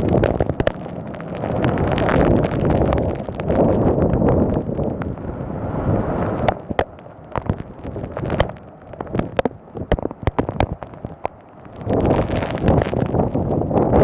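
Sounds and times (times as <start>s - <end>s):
raindrops tapping microphone: 0.0s - 14.0s
wind buffeting microphone: 0.0s - 14.0s.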